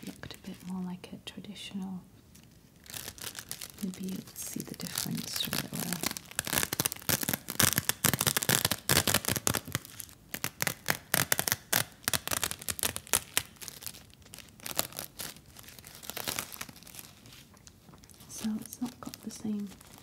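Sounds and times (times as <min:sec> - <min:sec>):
plastic wrapper crinkling: 0:00.0 - 0:00.9, 0:02.2 - 0:20.0.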